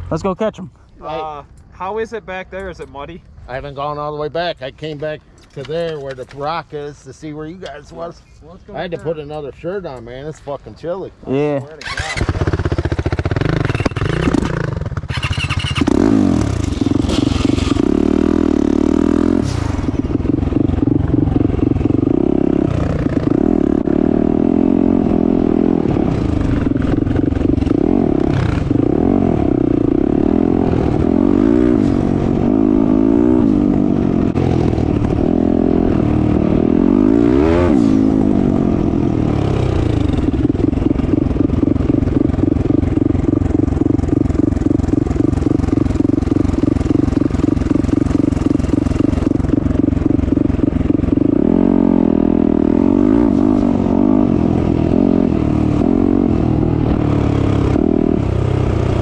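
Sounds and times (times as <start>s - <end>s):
motorcycle engine revving: 1.1s - 59.0s.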